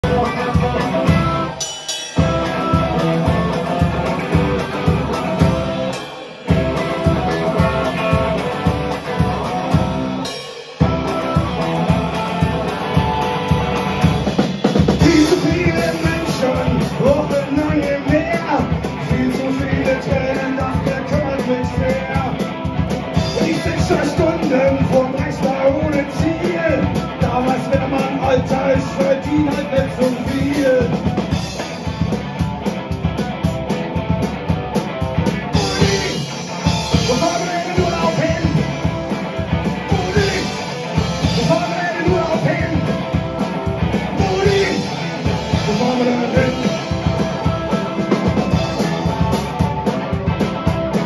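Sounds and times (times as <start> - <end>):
man singing: 0.0 - 1.6, 2.2 - 31.7, 35.4 - 49.9
rock band playing: 0.0 - 51.0.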